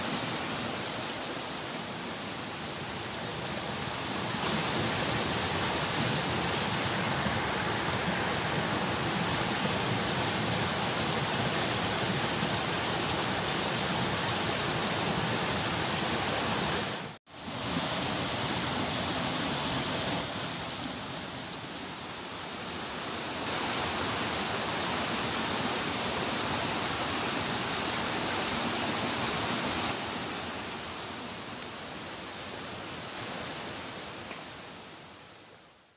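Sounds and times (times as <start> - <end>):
rushing water of rapids: 0.0 - 35.9.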